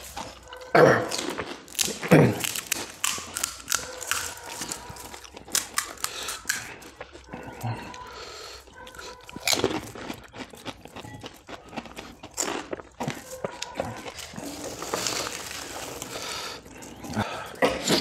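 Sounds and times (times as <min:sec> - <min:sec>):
crisp shells crunching when chewed: 0:00.0 - 0:18.0.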